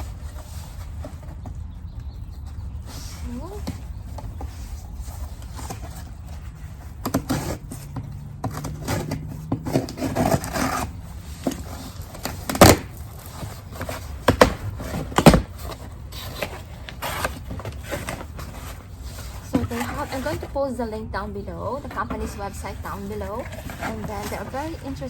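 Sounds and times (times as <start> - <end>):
scraping and rustling: 0.0 - 25.0.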